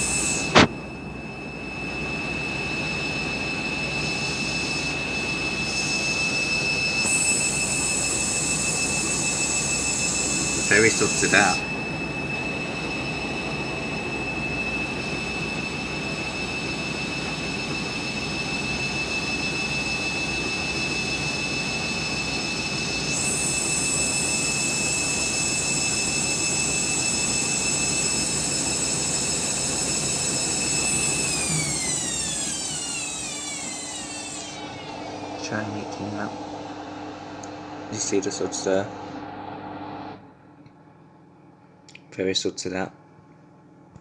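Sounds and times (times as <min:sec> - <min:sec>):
washing machine spinning: 0:00.0 - 0:40.4.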